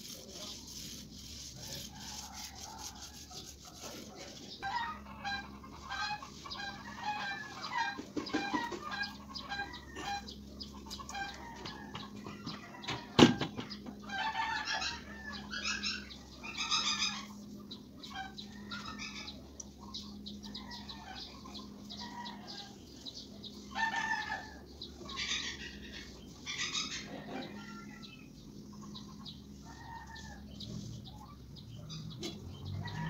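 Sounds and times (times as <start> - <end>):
faint steady hum: 0.0 - 33.0
chickens clucking: 1.5 - 33.0.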